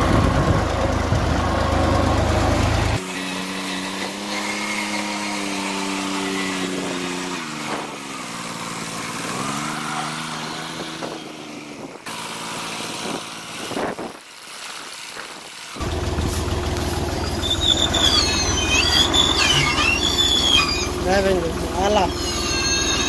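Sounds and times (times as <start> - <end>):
tractor diesel engine running: 0.0 - 4.7, 5.8 - 23.0.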